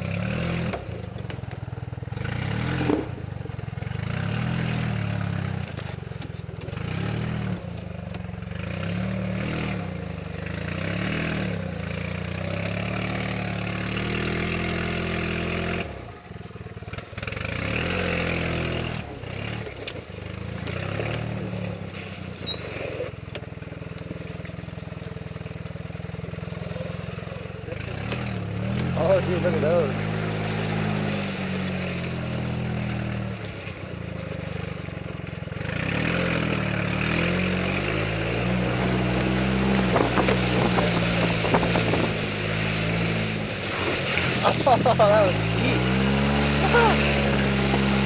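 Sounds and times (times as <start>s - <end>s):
golf cart engine running: 0.0s - 48.0s.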